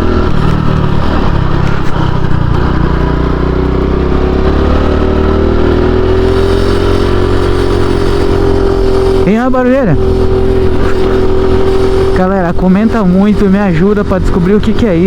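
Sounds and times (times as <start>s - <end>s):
motorcycle engine running: 0.0s - 15.0s
whirring noise from front wheel: 0.0s - 15.0s.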